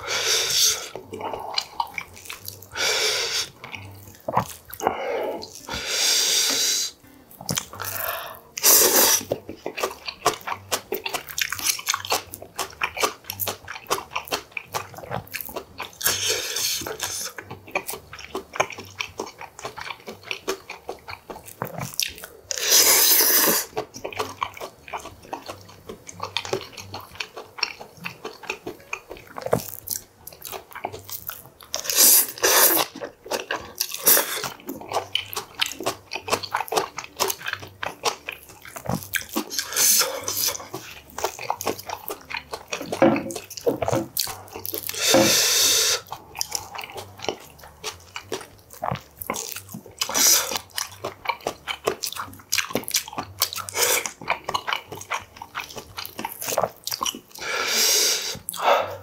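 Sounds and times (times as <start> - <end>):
close chewing and crunching: 0.0 - 59.0
wet mouth noises: 0.0 - 59.0.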